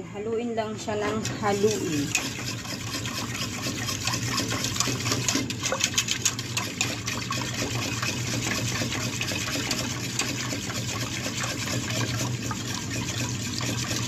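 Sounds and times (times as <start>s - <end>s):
liquid sloshing: 0.9s - 14.0s
metal spoon scraping pot: 0.9s - 14.0s.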